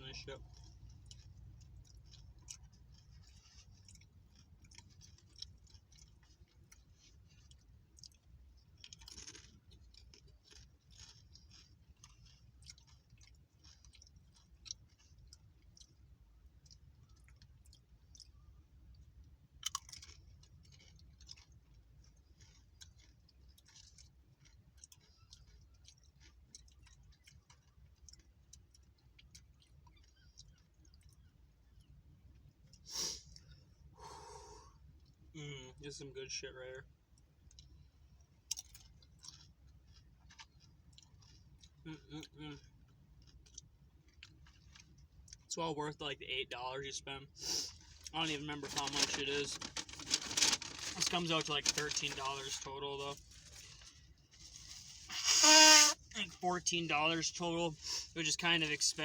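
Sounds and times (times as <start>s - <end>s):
chewing crunchy food: 0.0s - 59.0s.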